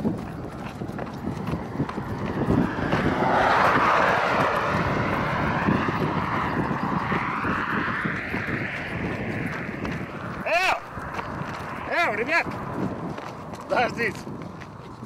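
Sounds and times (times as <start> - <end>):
running footsteps: 0.0 - 15.0.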